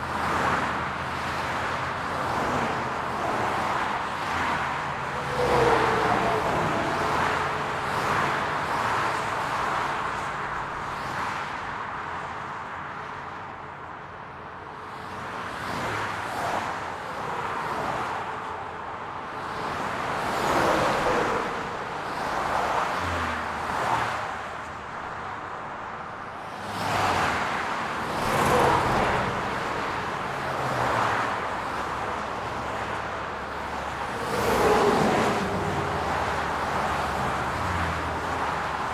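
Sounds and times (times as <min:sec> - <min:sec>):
highway cars passing: 0:00.0 - 0:38.9.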